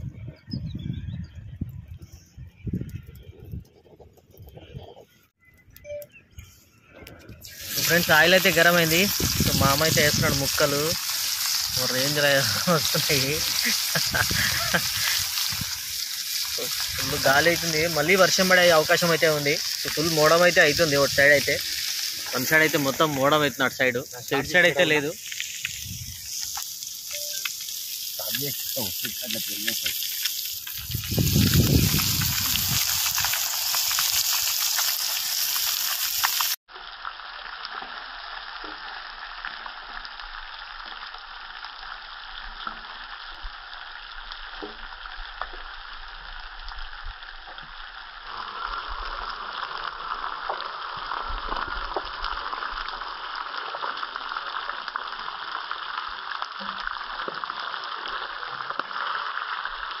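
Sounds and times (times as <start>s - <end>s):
fish sizzling in hot oil: 7.4s - 60.0s.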